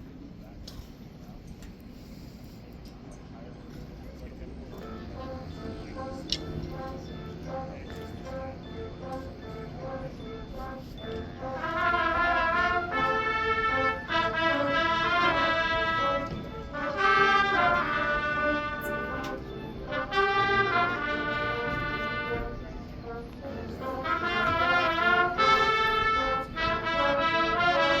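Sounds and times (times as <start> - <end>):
brass band playing chords: 4.4 - 28.0.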